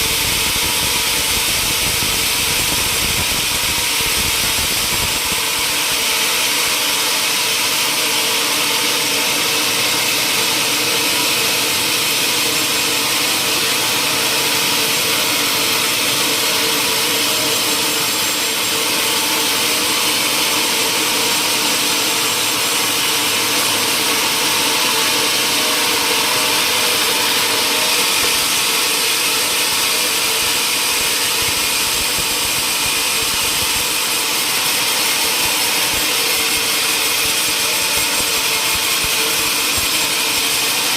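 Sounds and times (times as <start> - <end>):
sawmill machinery rushing noise: 0.0 - 40.9.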